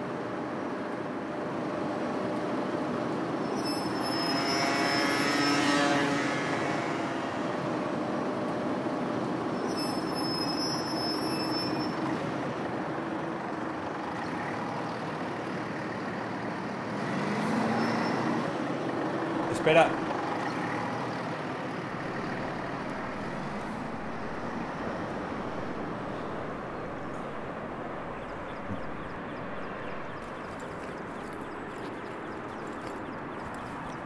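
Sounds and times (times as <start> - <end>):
bus engine pulling away: 0.0 - 34.0
street traffic noise: 0.0 - 34.0.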